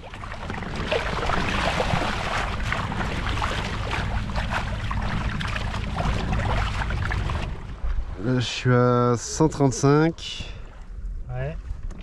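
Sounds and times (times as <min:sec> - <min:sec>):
wind buffeting microphone: 0:00.0 - 0:09.7
water rushing between hulls: 0:00.0 - 0:12.0.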